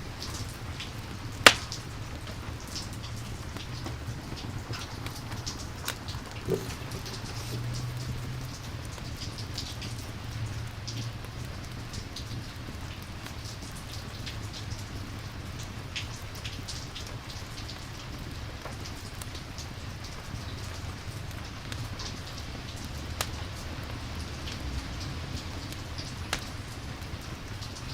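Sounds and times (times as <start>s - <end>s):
falling rain: 0.0s - 27.9s.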